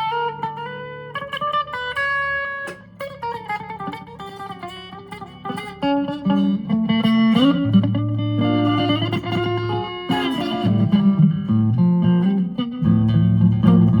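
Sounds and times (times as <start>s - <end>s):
twangy electric guitar: 0.0s - 14.0s.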